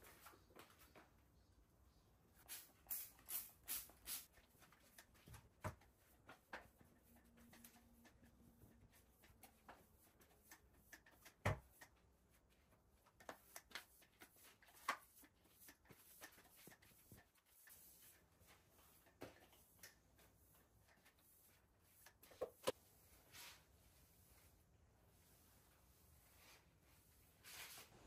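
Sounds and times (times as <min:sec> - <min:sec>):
broom sweeping tiled floor: 0:02.3 - 0:28.0.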